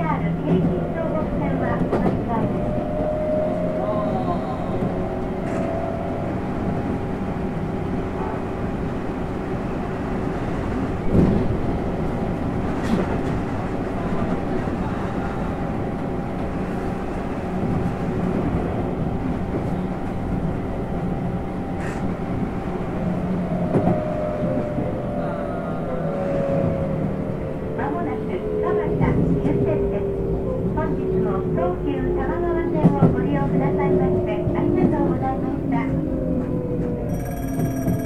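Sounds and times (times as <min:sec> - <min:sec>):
train running noise: 0:00.0 - 0:38.0
wind noise in cab: 0:00.1 - 0:37.0.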